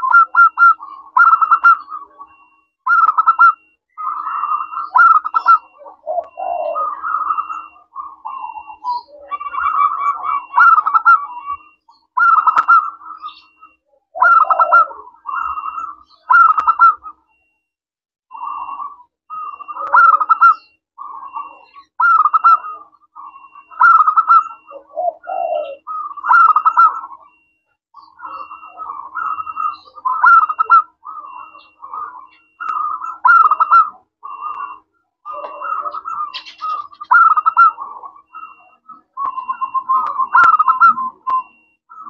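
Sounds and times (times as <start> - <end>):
dove cooing: 0.0 - 17.5, 18.3 - 42.0.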